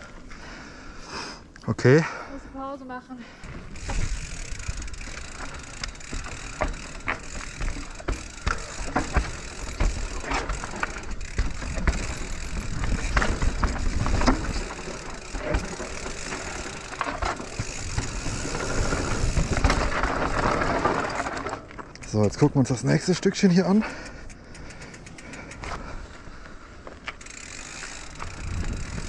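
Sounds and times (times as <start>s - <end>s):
bike clattering and rattling: 3.4s - 29.0s
bike tyres rolling over dirt: 3.4s - 29.0s.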